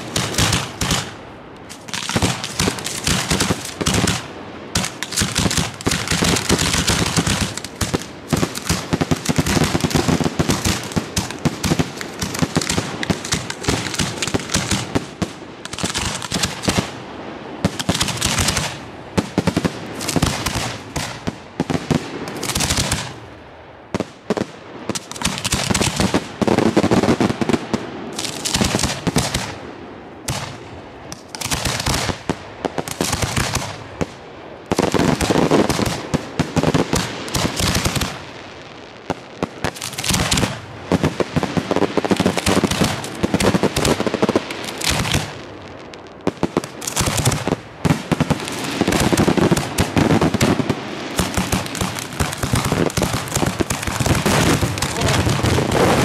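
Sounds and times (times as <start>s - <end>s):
fireworks crackling: 0.0s - 56.0s
fireworks firing and bursting: 0.0s - 56.0s.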